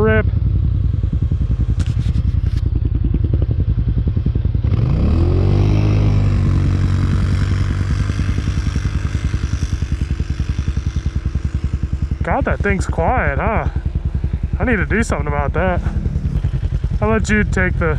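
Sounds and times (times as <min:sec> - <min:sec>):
atv engine idling and revving: 0:00.0 - 0:17.9.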